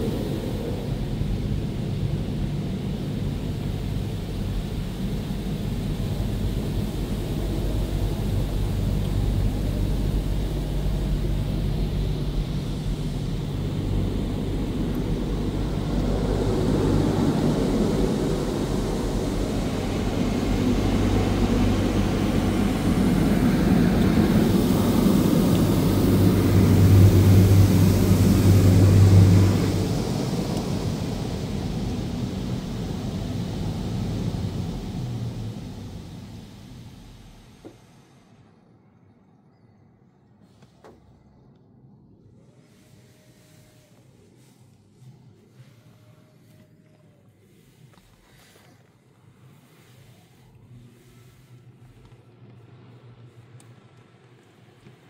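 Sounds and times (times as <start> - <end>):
water jets spraying on car: 0.0 - 38.3, 42.6 - 55.0
car wash motors droning: 0.0 - 39.4, 40.2 - 55.0.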